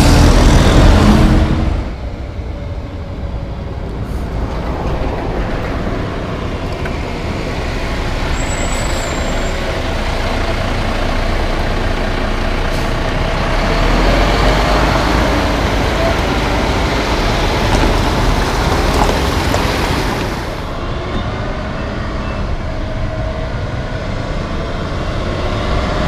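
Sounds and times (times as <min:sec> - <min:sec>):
truck passing with heavy rumble: 0:00.0 - 0:26.0.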